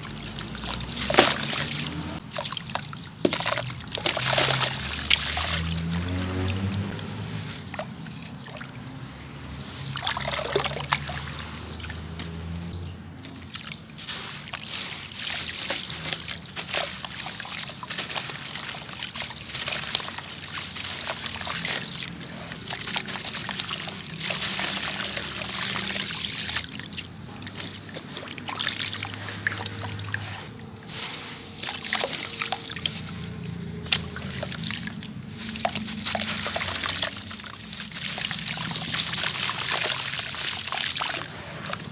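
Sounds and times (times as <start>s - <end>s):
crumbs crackling: 0.0s - 41.9s
grit fizzing in water: 0.0s - 41.9s
water sloshing and splashing: 0.0s - 41.9s.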